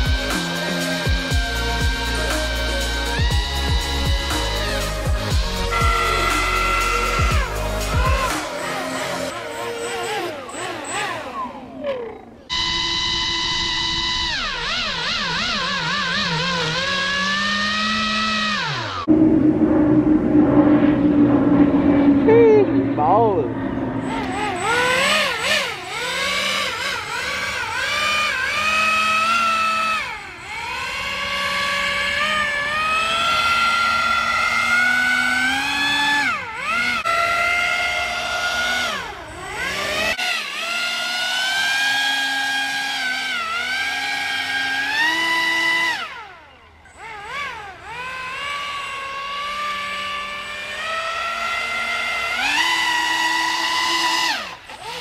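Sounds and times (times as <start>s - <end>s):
airboat motor and propeller whining: 0.0s - 55.0s.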